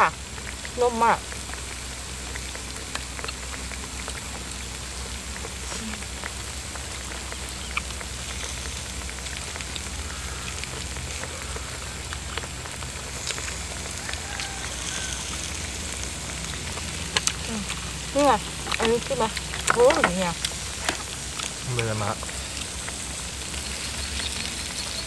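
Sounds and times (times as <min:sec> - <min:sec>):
meat sizzling on grill: 0:00.0 - 0:25.0.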